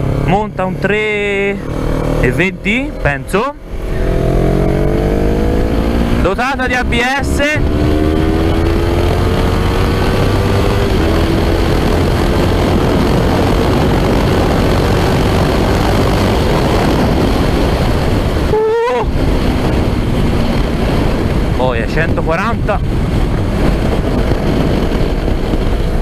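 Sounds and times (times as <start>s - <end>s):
motorcycle engine accelerating: 0.0s - 26.0s
wind rush: 0.0s - 26.0s.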